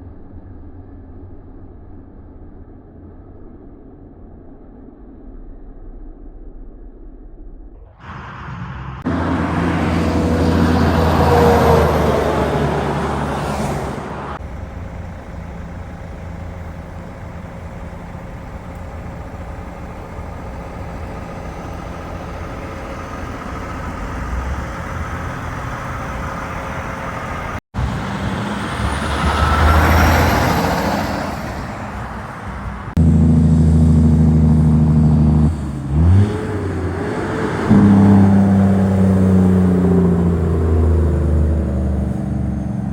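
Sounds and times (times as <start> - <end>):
heavy trucks driving past: 8.0 - 42.9
truck engine running loudly: 8.0 - 42.9.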